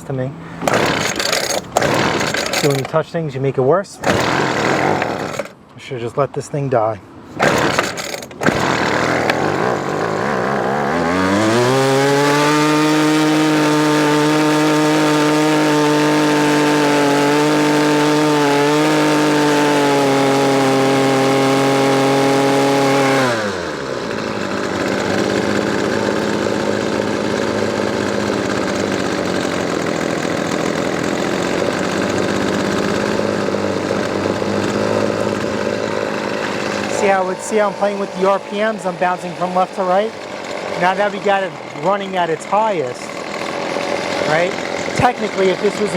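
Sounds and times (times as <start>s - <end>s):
string trimmer engine revving: 0.5s - 3.0s, 4.0s - 5.6s, 7.3s - 45.9s.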